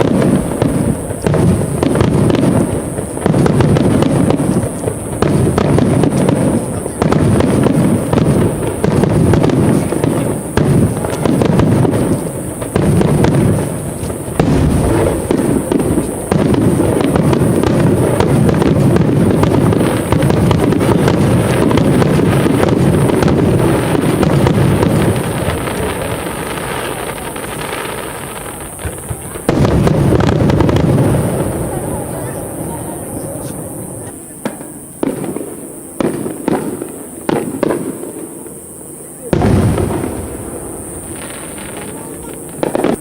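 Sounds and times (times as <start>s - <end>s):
fireworks booming: 0.0s - 43.0s.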